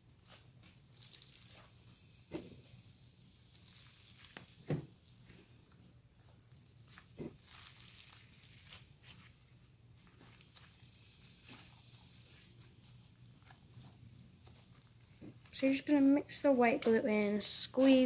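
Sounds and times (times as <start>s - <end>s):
slime squishing and crackling: 0.0s - 18.0s.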